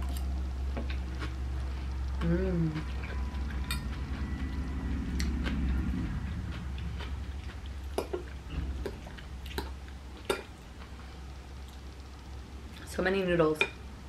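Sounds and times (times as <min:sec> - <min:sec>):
person chewing food: 0:00.0 - 0:12.1
steady low hum: 0:00.0 - 0:14.0.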